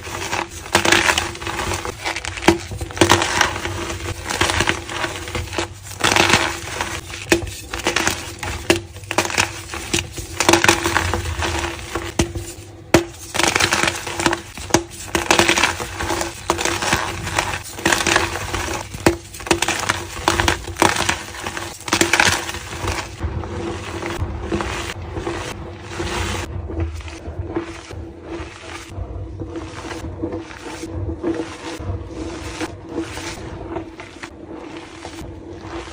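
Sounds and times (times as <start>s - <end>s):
chalk crunching and crumbling: 0.0s - 35.9s.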